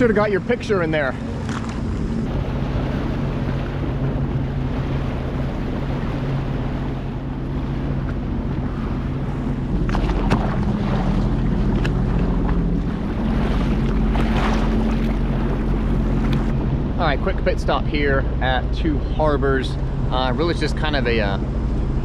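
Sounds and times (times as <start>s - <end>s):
watercraft engine idling: 0.0s - 22.0s
wind on microphone: 1.2s - 22.0s.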